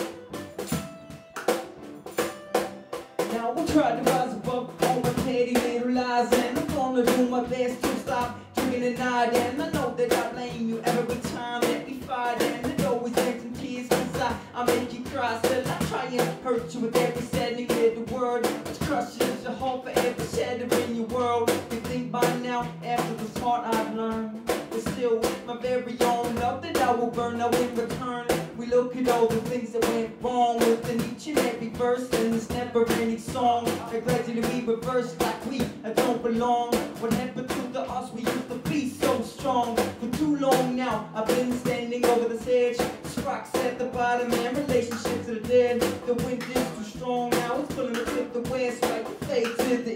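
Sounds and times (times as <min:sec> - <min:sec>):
acoustic guitar strumming: 0:00.0 - 0:49.9
drum beats: 0:00.0 - 0:49.9
man singing: 0:03.2 - 0:49.9.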